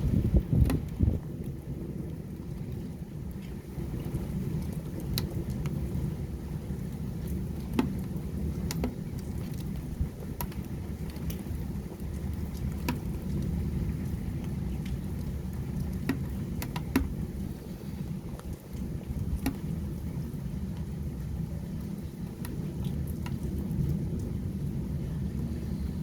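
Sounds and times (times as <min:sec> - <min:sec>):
heavy rain: 0:00.0 - 0:26.0
raindrops ticking: 0:00.0 - 0:26.0.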